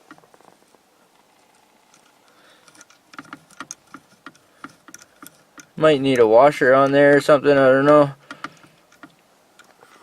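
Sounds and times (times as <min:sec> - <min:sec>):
light metallic clicks and taps: 0:01.9 - 0:10.0.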